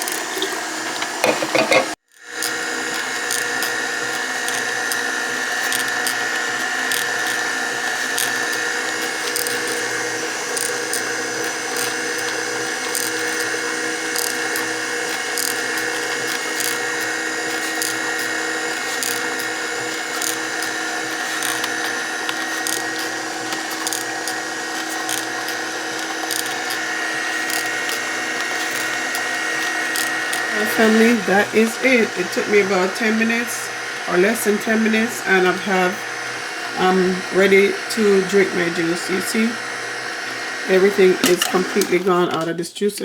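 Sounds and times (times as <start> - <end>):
juicer motor hum: 0.0 - 43.0.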